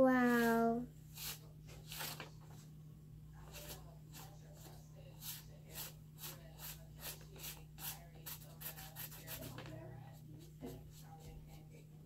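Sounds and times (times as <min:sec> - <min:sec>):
wooden stick scraping paint on paper: 0:00.3 - 0:02.6, 0:03.4 - 0:11.7.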